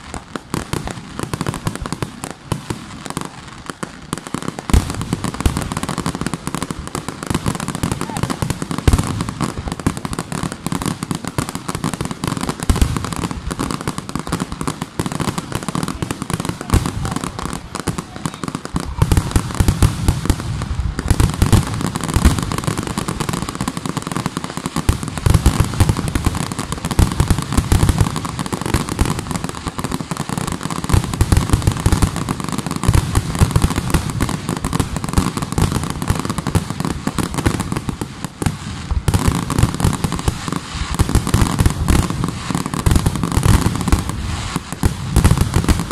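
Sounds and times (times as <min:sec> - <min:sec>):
fireworks crackling: 0:00.0 - 0:45.9.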